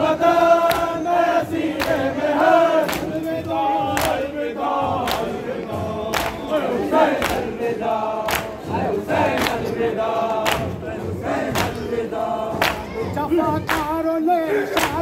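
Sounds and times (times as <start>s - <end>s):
crowd chanting: 0.0s - 15.0s
rhythmic chest-beating: 0.0s - 15.0s.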